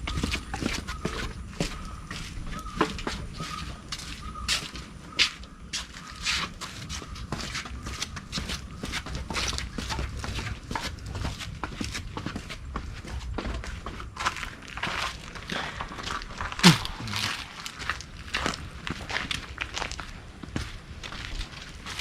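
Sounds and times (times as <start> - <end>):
crunching footsteps: 0.0 - 22.0.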